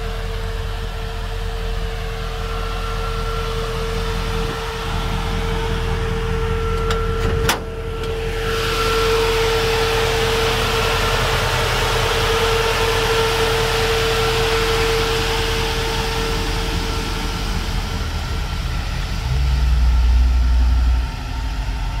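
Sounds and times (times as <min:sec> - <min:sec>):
car engine idling: 0:00.0 - 0:22.0
engine bay whine: 0:00.0 - 0:22.0
low rumble: 0:00.0 - 0:22.0.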